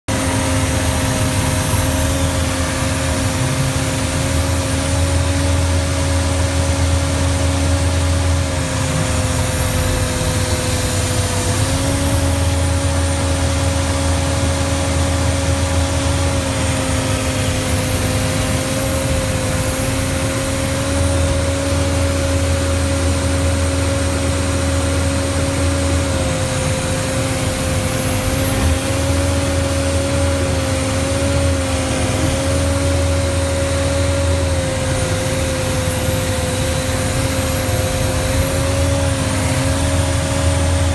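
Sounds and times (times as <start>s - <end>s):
deep engine rumble: 0.0s - 40.9s
snow vehicle engine whine: 0.0s - 40.9s.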